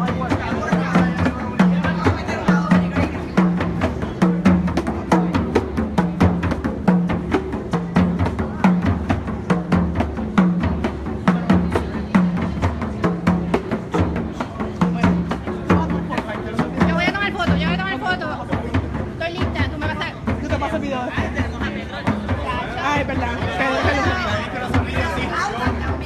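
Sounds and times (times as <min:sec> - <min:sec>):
deep drum beat: 0:00.0 - 0:26.0
frame drums slapping: 0:00.0 - 0:26.0.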